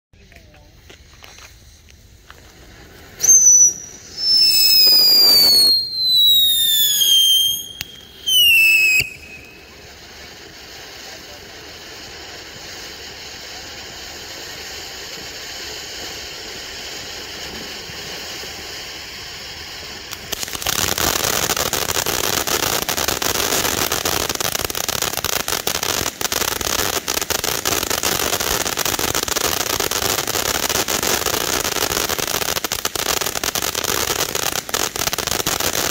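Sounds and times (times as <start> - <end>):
dense crackling sparks: 0.2 - 35.9
hiss of spraying sparks: 0.2 - 35.9
firework whistles falling in pitch: 0.9 - 35.9.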